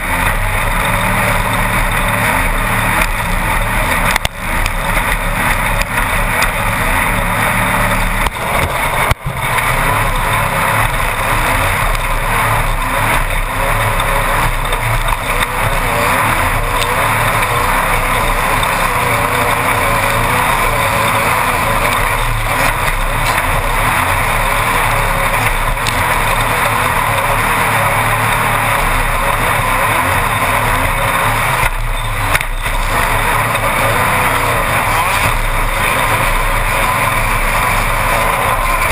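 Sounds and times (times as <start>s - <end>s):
buggy engine and road din: 0.0s - 38.9s.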